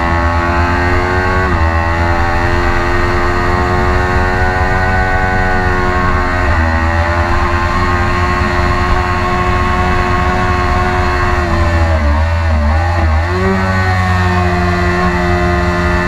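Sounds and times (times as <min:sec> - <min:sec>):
motorcycle engine at high revs: 0:00.0 - 0:16.0
wind noise: 0:00.0 - 0:16.0.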